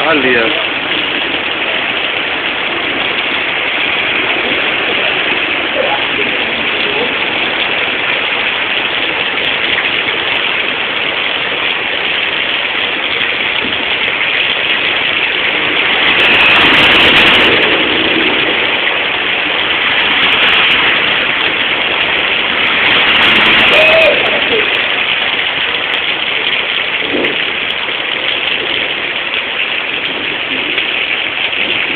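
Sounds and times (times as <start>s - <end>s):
heavy rain on street: 0.0s - 31.9s
runoff water rushing: 0.0s - 31.9s.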